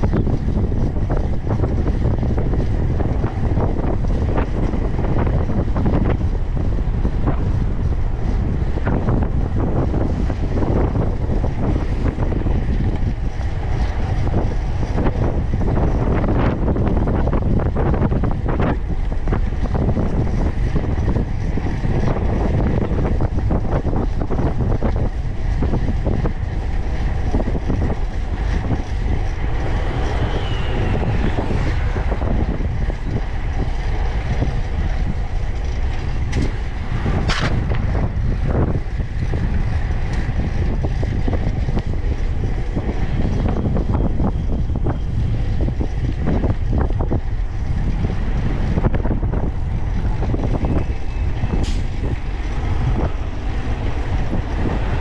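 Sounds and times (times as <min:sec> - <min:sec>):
bicycle clicks and rattles: 0:00.0 - 0:55.0
road noise: 0:00.0 - 0:55.0
wind buffeting microphone: 0:00.0 - 0:55.0.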